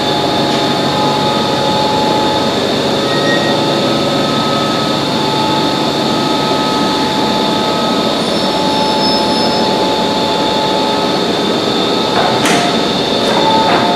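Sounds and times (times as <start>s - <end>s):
metro train hum and whine: 0.0s - 13.9s.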